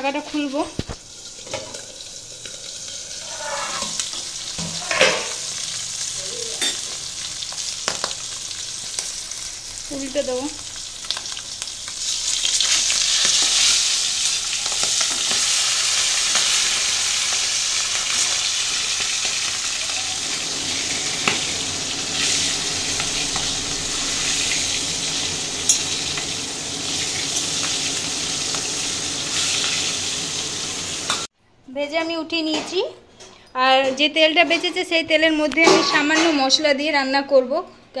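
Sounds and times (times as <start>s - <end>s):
fish sizzling in hot oil: 0.0s - 31.3s.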